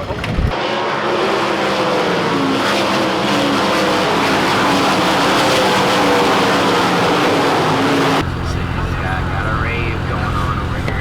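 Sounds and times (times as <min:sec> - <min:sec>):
racing car engines at full throttle: 0:00.0 - 0:11.0.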